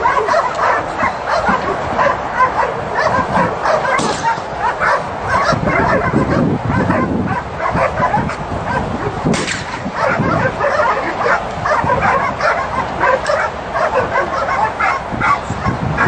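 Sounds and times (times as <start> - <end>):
dog yipping and whining: 0.0 - 9.2, 10.0 - 15.4.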